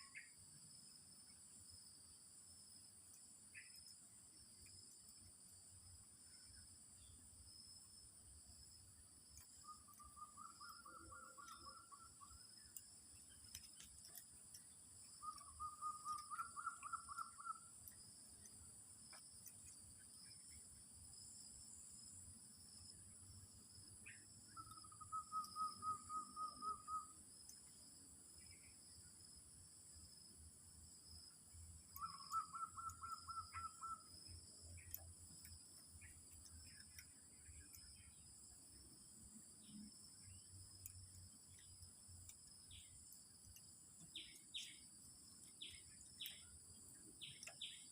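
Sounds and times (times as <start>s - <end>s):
insects chirring: 0.0s - 47.9s.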